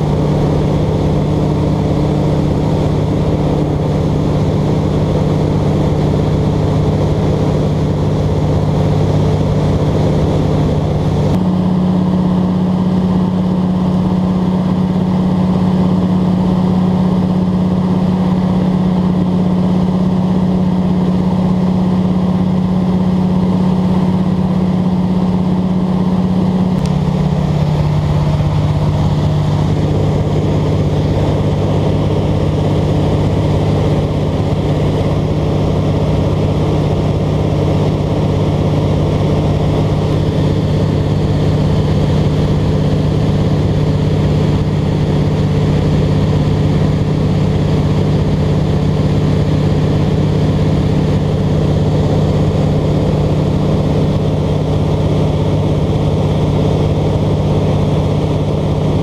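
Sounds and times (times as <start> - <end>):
light aircraft engine and propeller: 0.0 - 59.0
rushing wind: 0.0 - 59.0.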